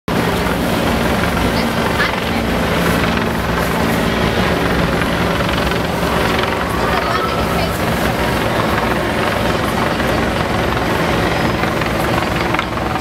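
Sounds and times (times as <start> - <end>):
loud mechanical rumble: 0.1 - 13.0.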